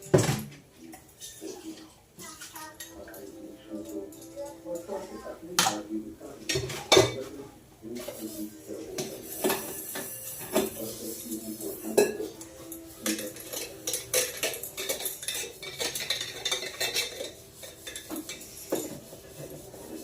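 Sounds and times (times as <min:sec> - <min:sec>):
metal utensils and pots clattering: 0:00.0 - 0:07.3, 0:08.0 - 0:20.0.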